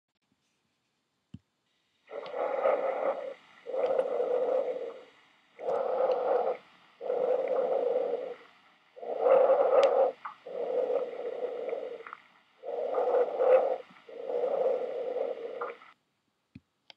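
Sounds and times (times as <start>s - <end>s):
breath sounds: 2.1s - 16.0s.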